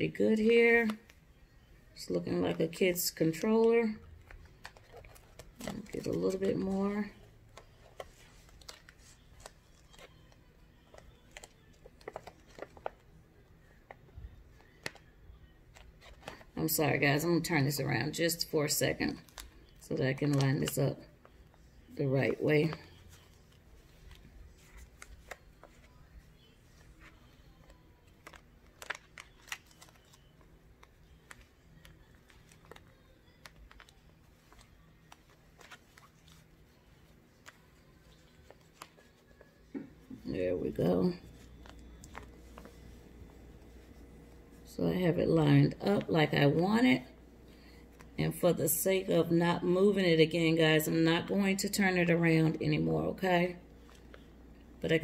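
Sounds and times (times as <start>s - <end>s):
light clicks and crinkles of vinyl: 0.4s - 1.6s, 2.2s - 16.8s, 17.4s - 50.0s, 53.2s - 55.0s.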